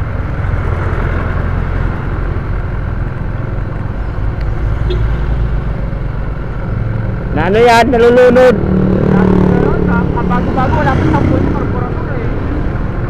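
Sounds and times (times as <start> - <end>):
motorcycle engine: 0.0 - 13.0
road noise: 0.0 - 13.0.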